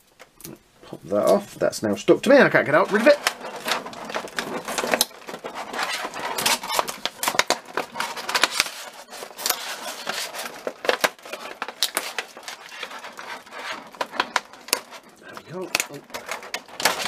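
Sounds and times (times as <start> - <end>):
plastic tray clicking and crackling: 2.3 - 17.0.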